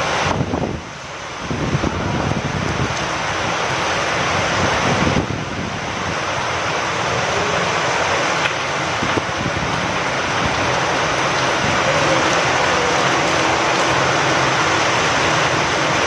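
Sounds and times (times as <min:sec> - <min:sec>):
steady rain falling: 0:00.0 - 0:16.0
wind: 0:00.0 - 0:16.0.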